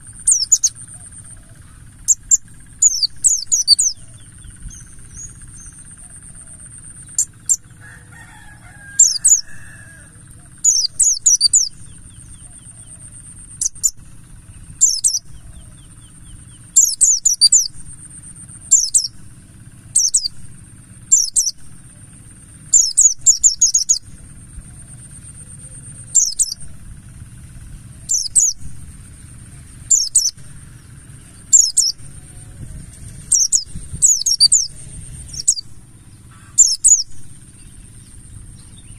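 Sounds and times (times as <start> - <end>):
bird chirping: 0.0 - 38.9
low hum: 0.0 - 38.9
steady high-pitched whine: 0.0 - 38.9.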